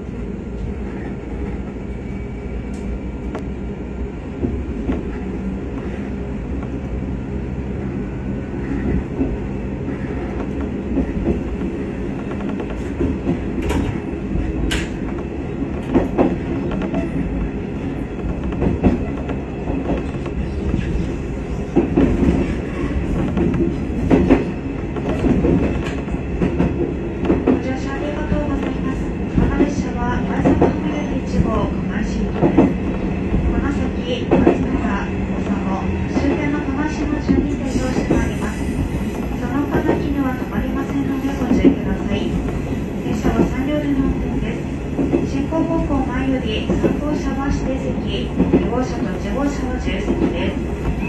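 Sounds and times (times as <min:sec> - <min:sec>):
railcar engine drone: 0:00.0 - 0:51.0.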